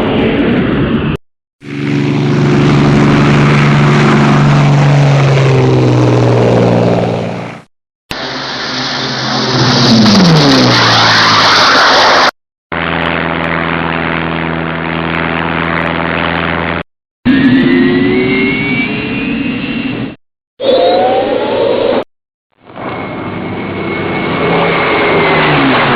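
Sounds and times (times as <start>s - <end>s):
steady engine drone: 0.0s - 20.2s, 20.9s - 25.9s
aircraft engine falling in pitch: 0.0s - 25.9s
engine whine rising in pitch: 0.1s - 25.9s.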